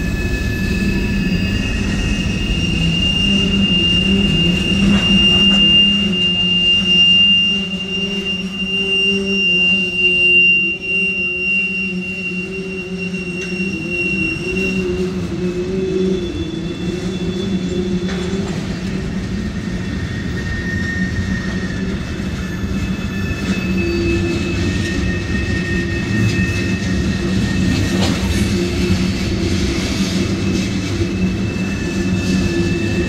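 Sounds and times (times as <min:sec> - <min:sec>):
high-pitched wheel squeals: 0:00.0 - 0:33.0
train wheels rumbling on rail: 0:00.0 - 0:33.0.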